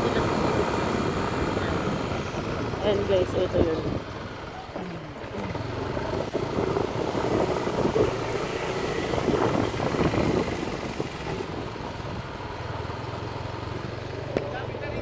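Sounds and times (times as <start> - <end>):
motor vehicle running close by: 0.0 - 15.0.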